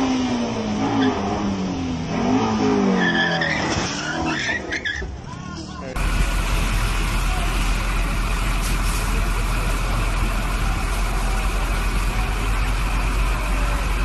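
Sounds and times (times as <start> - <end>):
vehicle motor rumbling: 0.0 - 3.0, 3.6 - 14.0
road and wind noise: 0.0 - 14.0.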